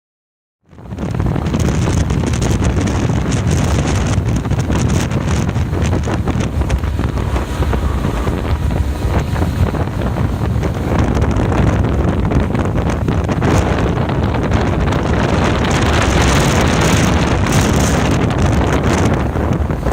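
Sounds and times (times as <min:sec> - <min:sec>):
wind buffeting microphone: 0:00.7 - 0:19.9.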